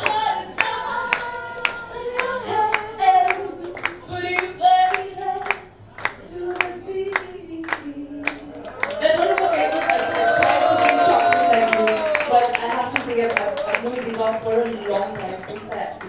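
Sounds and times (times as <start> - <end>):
woman singing into a microphone: 0.0 - 13.2
people clapping along: 0.0 - 16.0.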